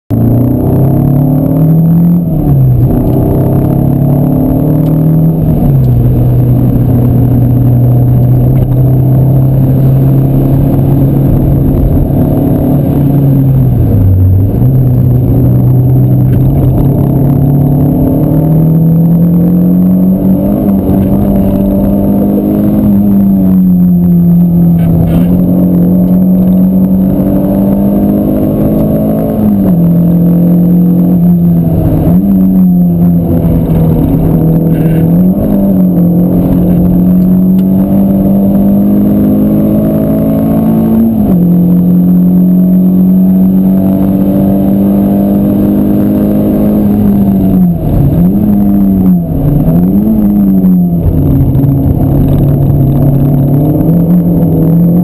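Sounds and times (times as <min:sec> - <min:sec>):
car engine under load: 0:00.1 - 0:55.0
road and wind noise: 0:00.1 - 0:55.0.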